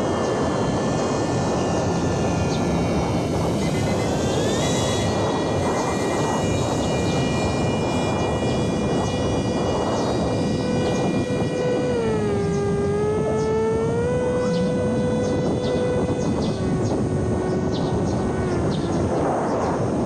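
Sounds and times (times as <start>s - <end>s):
electric motor and propeller whining: 0.0s - 20.0s
steady rushing noise: 0.0s - 20.0s.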